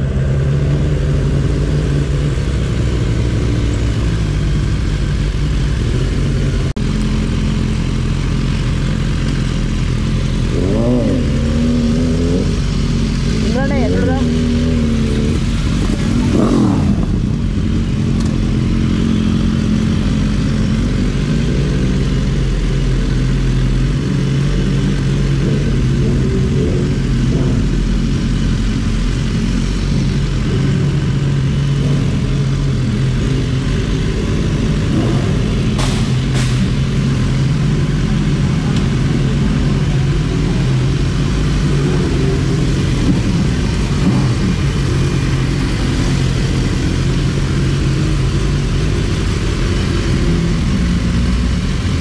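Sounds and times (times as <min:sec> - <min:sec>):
motorcycle engine at low revs: 0:00.0 - 0:52.0.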